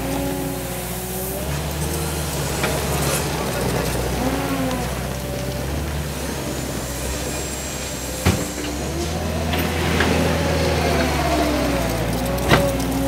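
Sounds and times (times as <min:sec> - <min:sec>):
loader diesel engine running: 0:00.0 - 0:13.0.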